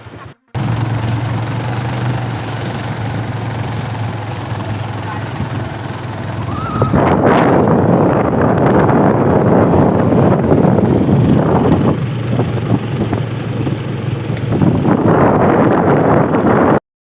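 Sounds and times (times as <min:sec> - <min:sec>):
boat engine running: 0:00.0 - 0:16.8
wind buffeting microphone: 0:00.0 - 0:16.8.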